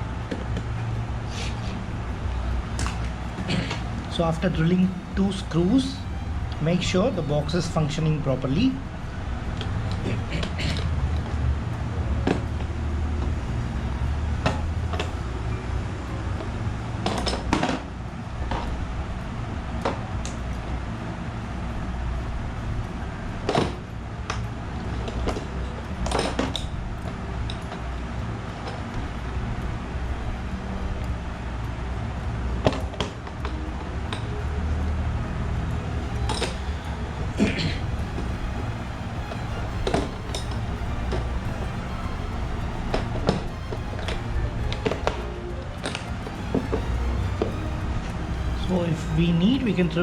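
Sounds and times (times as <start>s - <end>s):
low background rumble: 0.0s - 50.0s.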